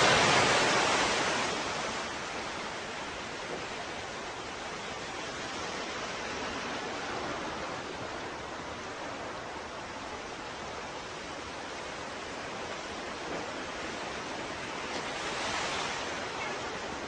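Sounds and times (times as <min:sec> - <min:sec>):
ocean surf washing on shore: 0:00.0 - 0:17.0.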